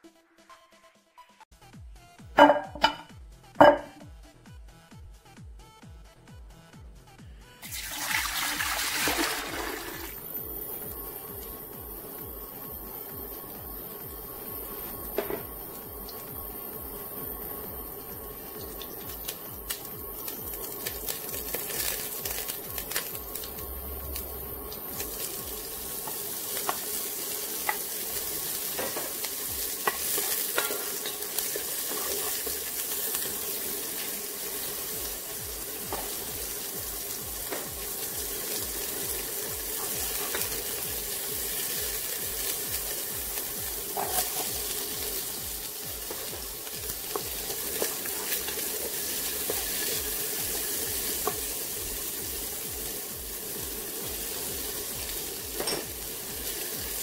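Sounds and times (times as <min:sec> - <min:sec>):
vegetables sizzling in butter: 0:07.6 - 0:57.0.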